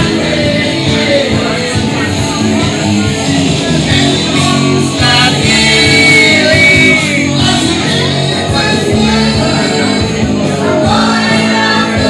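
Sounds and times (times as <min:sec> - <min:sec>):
loud rock music with singing: 0:00.0 - 0:12.0.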